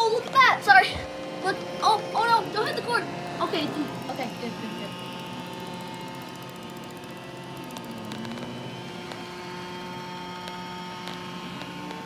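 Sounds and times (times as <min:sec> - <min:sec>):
robot vacuum whirring: 0:00.0 - 0:12.0.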